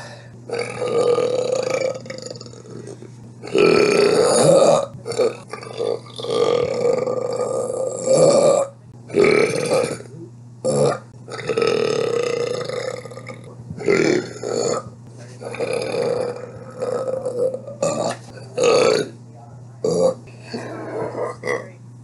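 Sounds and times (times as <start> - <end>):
woman belching: 0.5 - 19.1, 19.8 - 21.8.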